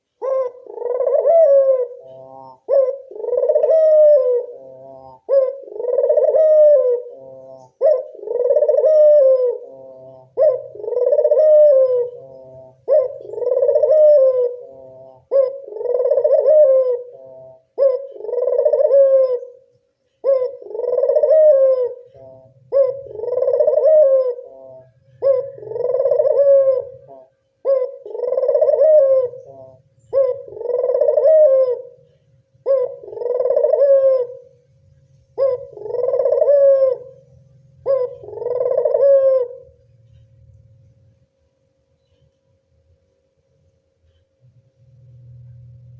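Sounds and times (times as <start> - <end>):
dove cooing: 0.0 - 40.5.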